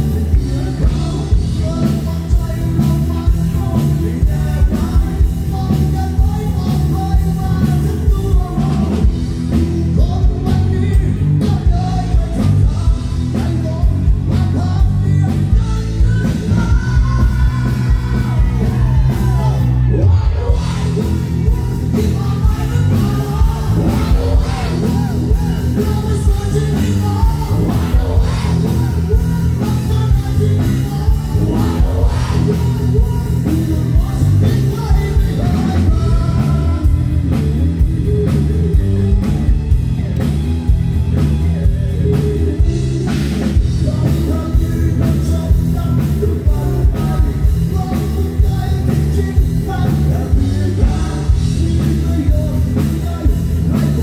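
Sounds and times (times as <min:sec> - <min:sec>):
man singing: 0:00.0 - 0:38.8, 0:41.9 - 0:54.0
bass guitar: 0:00.0 - 0:54.0
drum kit: 0:00.0 - 0:54.0
electric guitar: 0:00.0 - 0:54.0.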